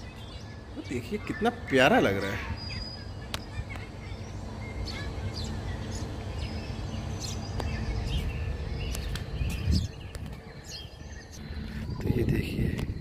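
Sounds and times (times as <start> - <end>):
small birds chirping: 0.0 - 13.0
steady low rumble: 2.6 - 13.0.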